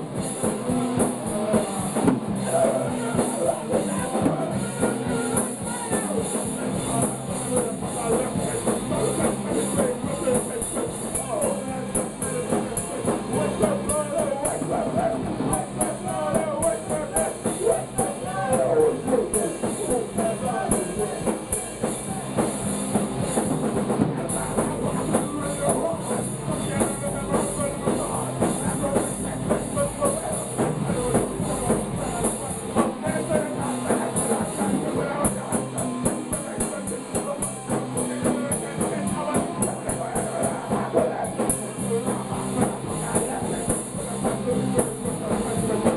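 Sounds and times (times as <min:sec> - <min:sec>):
person singing into microphone: 0:00.0 - 0:22.4, 0:24.0 - 0:45.9
drums with fast cymbal strokes: 0:00.0 - 0:45.9
electric guitar: 0:00.0 - 0:45.9.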